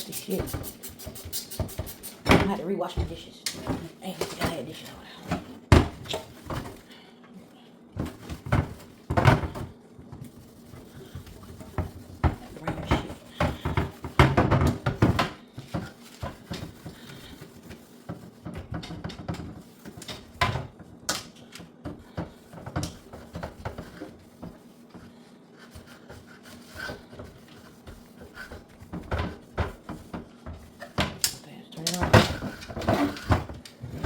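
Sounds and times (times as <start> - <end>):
scrubbing and rubbing: 0.0 - 5.0, 8.1 - 31.2.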